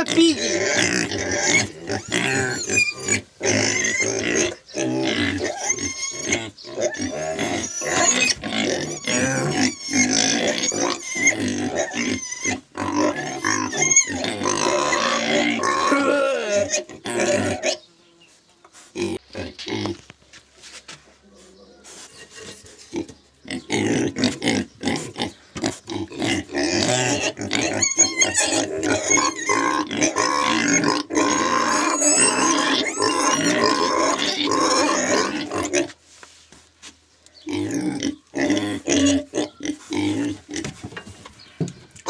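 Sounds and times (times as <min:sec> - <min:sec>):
pigs squealing: 0:00.0 - 0:17.8, 0:21.8 - 0:36.0, 0:37.5 - 0:40.7.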